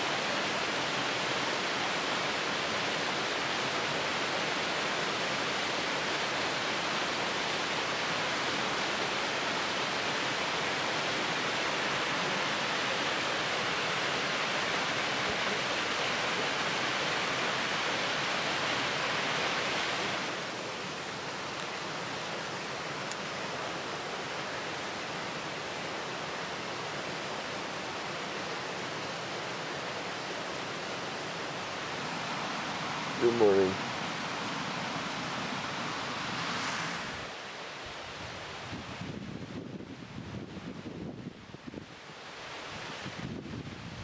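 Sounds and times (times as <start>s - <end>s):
white water roar: 0.0s - 44.0s.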